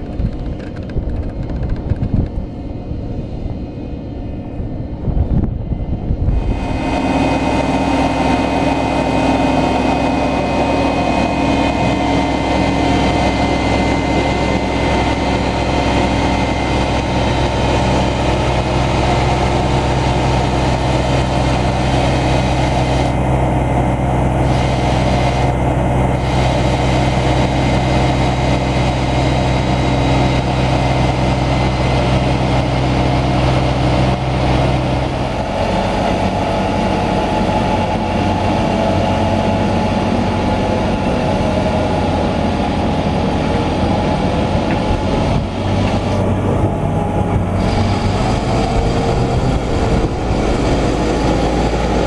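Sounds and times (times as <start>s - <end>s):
tractor diesel engines humming: 0.0s - 52.0s.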